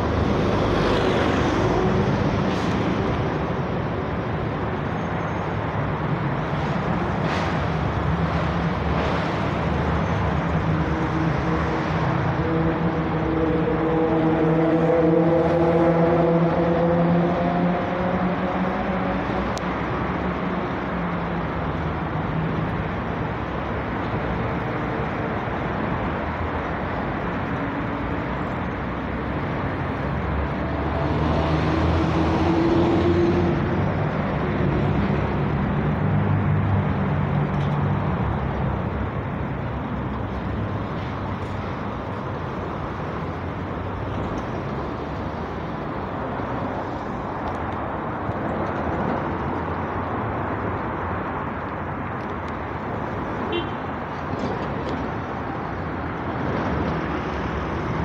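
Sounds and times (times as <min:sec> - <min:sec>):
metro train rumbling: 0:00.0 - 0:51.1.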